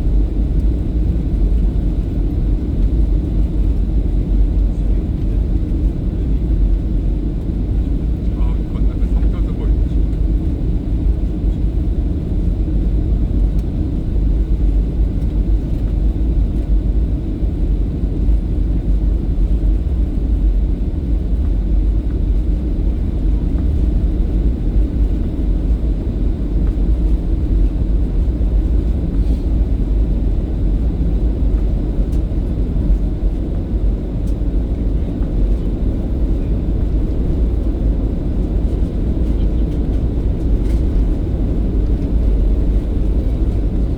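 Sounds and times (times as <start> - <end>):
jet cabin engine rumble: 0.0 - 43.9.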